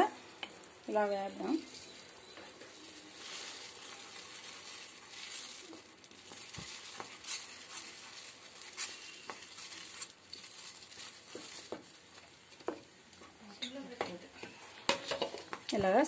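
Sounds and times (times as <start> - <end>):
oats bubbling in boiling water: 0.0 - 13.4.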